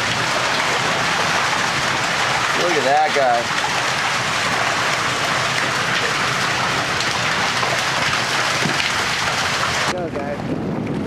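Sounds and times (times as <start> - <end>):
water rushing down metal chute: 0.0 - 10.0.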